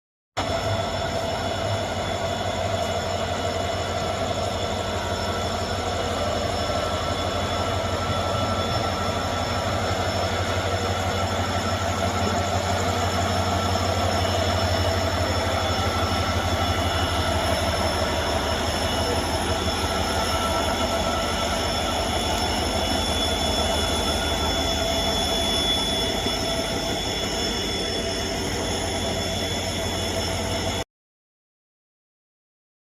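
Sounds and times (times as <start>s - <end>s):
diesel locomotive engine throbbing: 0.4s - 30.8s
thin high whines: 0.4s - 30.8s.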